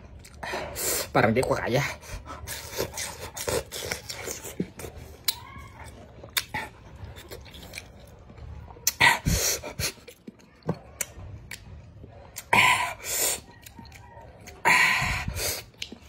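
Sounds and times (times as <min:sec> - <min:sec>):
man chewing with wet crunches: 0:00.0 - 0:16.0.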